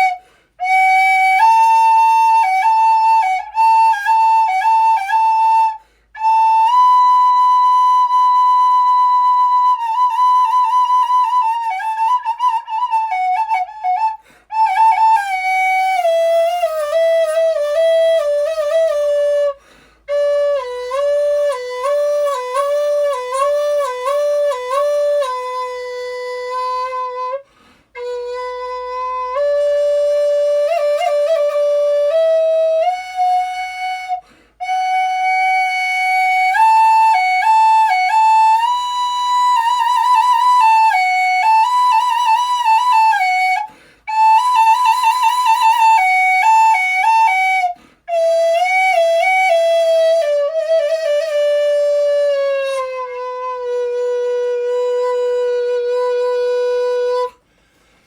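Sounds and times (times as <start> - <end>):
solo flute melody: 0.0 - 57.9.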